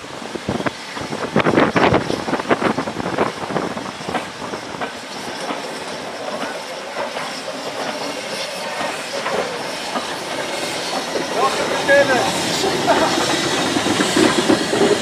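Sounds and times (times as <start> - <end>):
train rushing on rails: 0.0 - 15.0.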